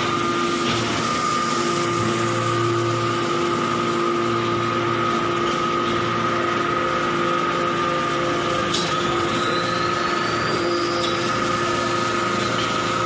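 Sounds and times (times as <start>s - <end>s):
constant whine: 0.0s - 13.0s
hydraulic pump and motor hum: 0.0s - 13.0s.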